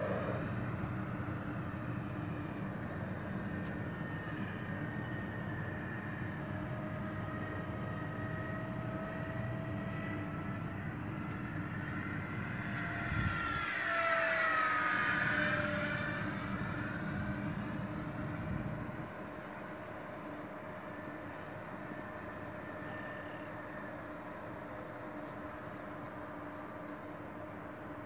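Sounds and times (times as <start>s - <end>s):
model plane fans whining: 0.0s - 28.0s.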